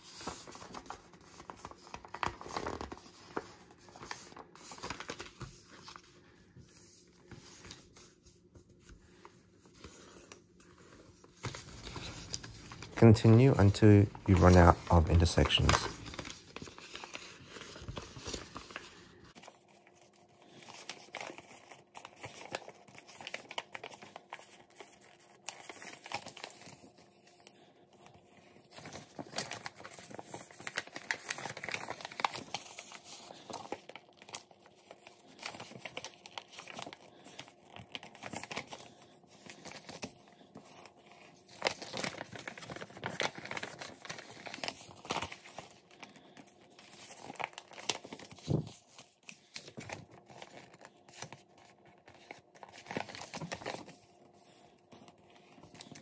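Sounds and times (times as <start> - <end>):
paper crinkling and rustling: 0.0 - 56.0
sharp paper crease crackles: 0.0 - 56.0.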